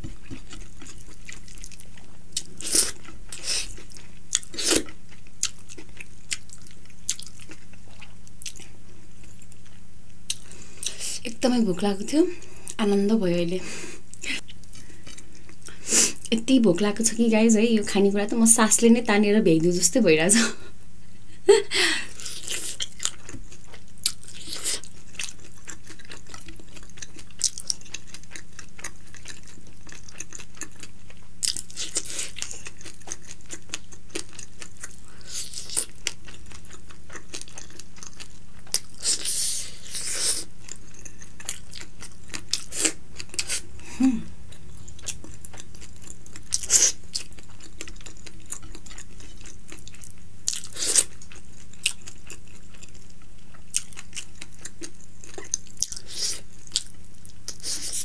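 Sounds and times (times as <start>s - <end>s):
chewing and crunching food: 0.0s - 11.1s, 14.1s - 16.8s, 22.1s - 43.7s, 44.4s - 58.0s
faint low hum: 0.0s - 58.0s.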